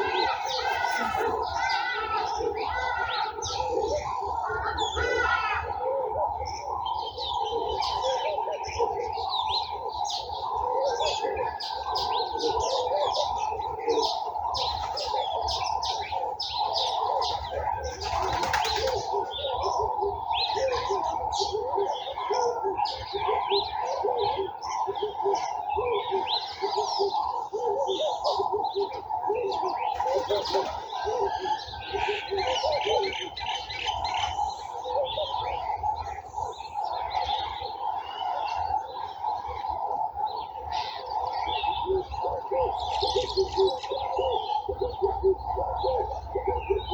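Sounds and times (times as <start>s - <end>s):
birds chirping and tweeting: 0.0s - 46.9s.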